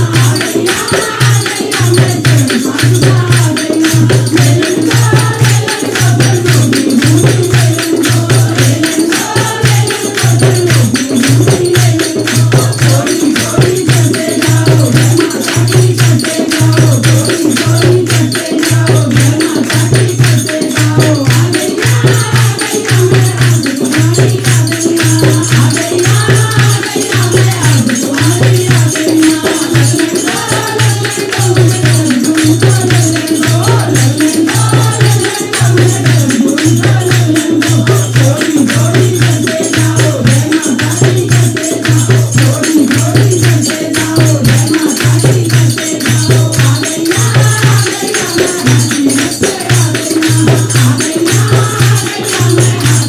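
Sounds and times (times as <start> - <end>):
hands clapping in rhythm: 0.0 - 53.0
tambourine jingles: 0.0 - 53.0
women singing in unison: 0.0 - 53.0.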